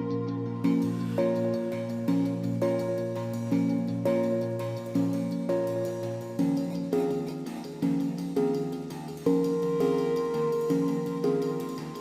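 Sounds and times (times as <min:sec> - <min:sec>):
gentle plucked instrumental music: 0:00.0 - 0:12.0.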